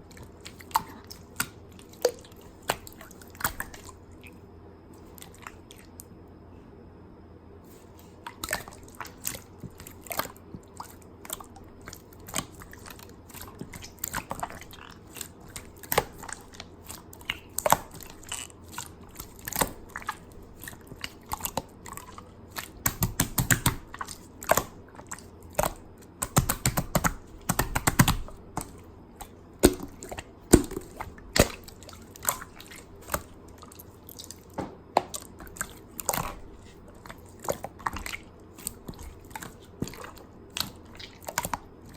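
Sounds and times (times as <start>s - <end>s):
slime squishing with sticky pops: 0.0s - 4.4s, 8.0s - 41.9s.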